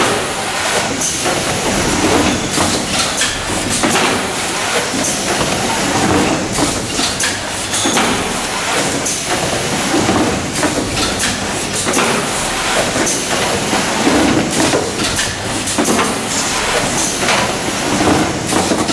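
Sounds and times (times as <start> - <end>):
machine clatter: 0.0 - 18.9
sharp pneumatic clacks: 0.0 - 18.9.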